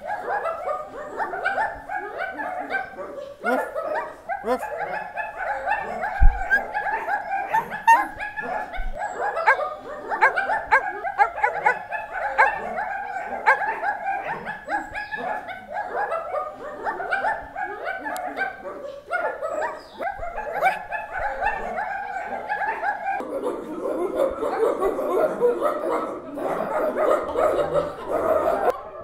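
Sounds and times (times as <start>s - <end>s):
dogs barking: 0.0s - 29.0s.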